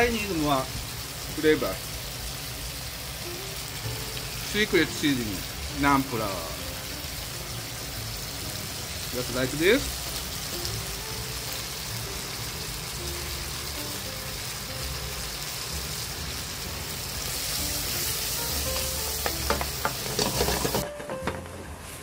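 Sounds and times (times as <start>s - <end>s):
food sizzling in a pan: 0.0s - 20.9s.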